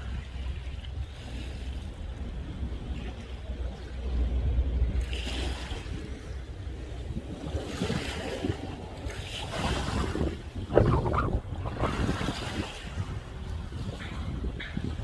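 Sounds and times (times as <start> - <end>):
sea waves washing in: 0.0 - 15.0
wind rumbling on microphone: 0.0 - 15.0.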